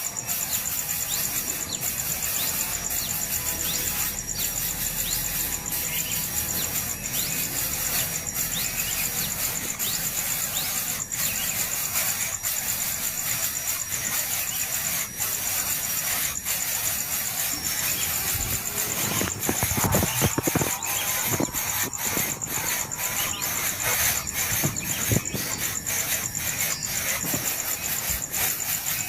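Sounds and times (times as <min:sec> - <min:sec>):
nestling birds squeaking: 0:00.0 - 0:29.0
steady high hiss: 0:00.0 - 0:29.0.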